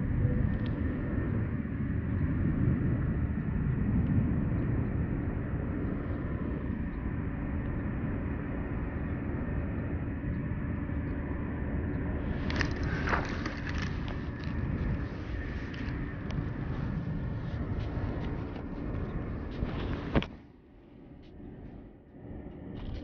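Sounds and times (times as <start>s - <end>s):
distant city rumble: 0.0s - 23.0s.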